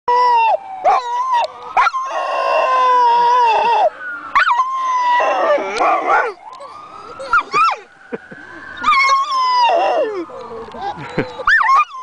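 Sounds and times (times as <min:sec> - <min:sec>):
dog howling: 0:00.1 - 0:07.8, 0:08.8 - 0:12.0.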